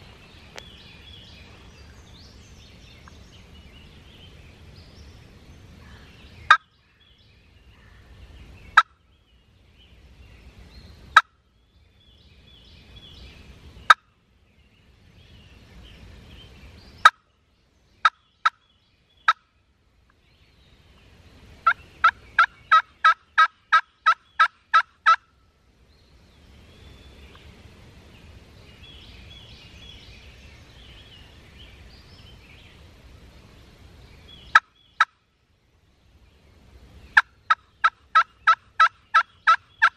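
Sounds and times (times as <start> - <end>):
faint woodland background: 0.0 - 39.9.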